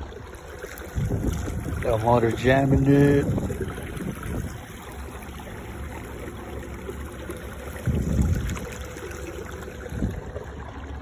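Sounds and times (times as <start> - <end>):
low motor rumble: 0.0 - 11.0
water running along hull: 0.0 - 11.0.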